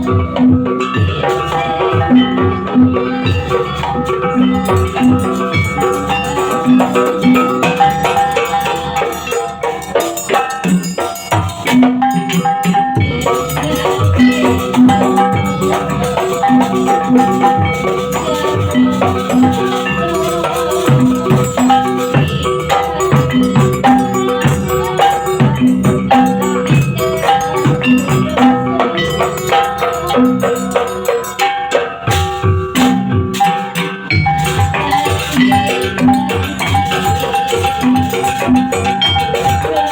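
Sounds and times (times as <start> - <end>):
drum strokes: 0.0 - 39.9
metal keyed percussion ringing: 0.0 - 39.9
rattling shaken percussion: 0.0 - 39.9.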